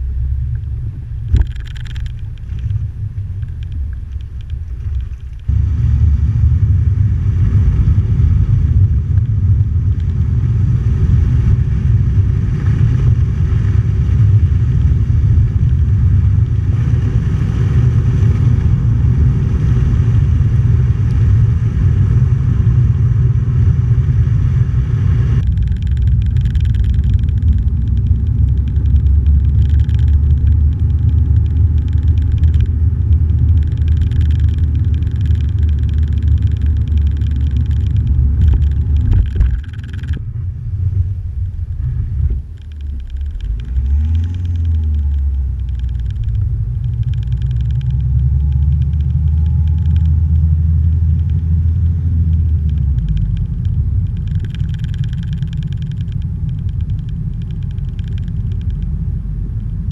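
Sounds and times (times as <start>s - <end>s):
road and wind noise: 0.0s - 59.9s
vehicle low rumble: 0.0s - 59.9s.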